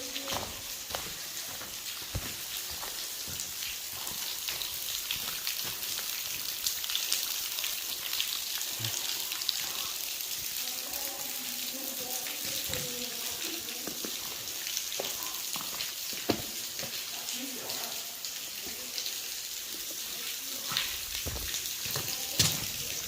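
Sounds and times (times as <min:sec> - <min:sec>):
water dripping and trickling: 0:00.0 - 0:23.0.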